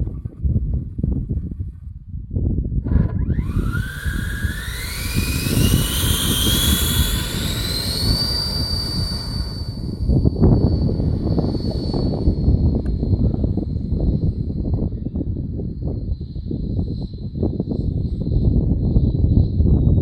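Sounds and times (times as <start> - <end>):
low rumble: 0.0 - 20.0
electric ducted fan whine: 2.7 - 20.0.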